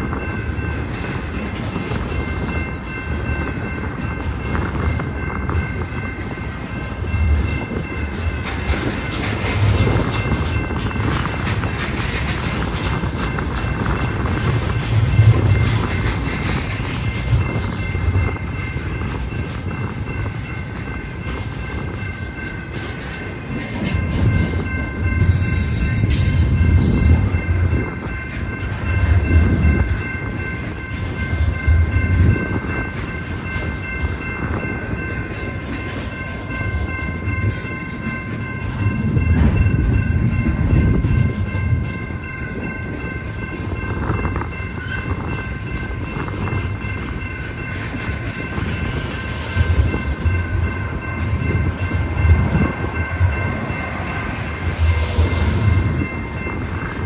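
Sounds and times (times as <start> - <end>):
freight train cars clacking on rails: 0.0 - 57.0
steady high ringing tone: 0.0 - 57.0.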